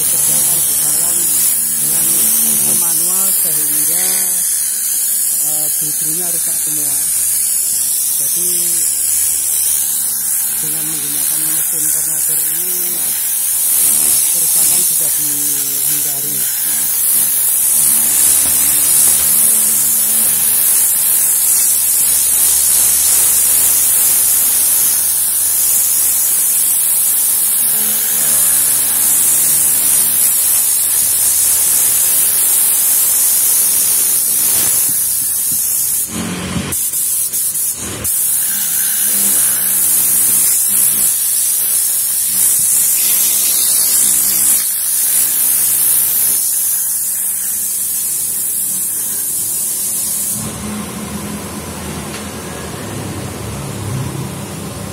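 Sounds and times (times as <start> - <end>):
pneumatic cleaning gun hissing: 0.0 - 50.6.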